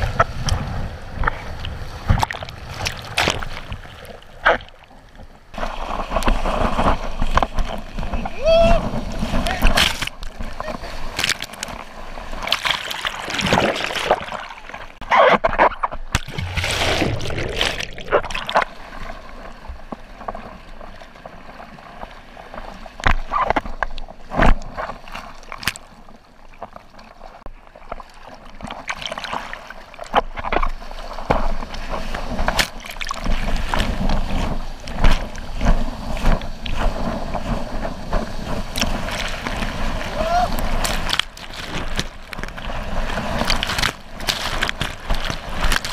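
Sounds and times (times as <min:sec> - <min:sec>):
sea water rushing and splashing: 0:00.0 - 0:45.9.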